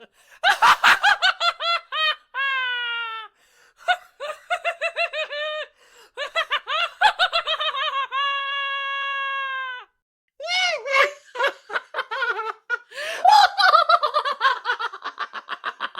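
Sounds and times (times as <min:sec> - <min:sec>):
high-pitched evil clown laugh: 0:00.4 - 0:09.9, 0:10.7 - 0:15.9.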